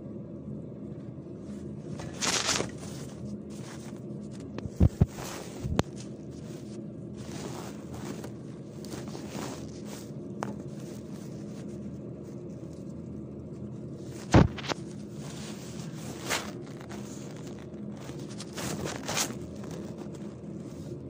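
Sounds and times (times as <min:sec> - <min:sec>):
low hum: 0:00.0 - 0:21.0
hand mixing food rustling: 0:01.5 - 0:21.0.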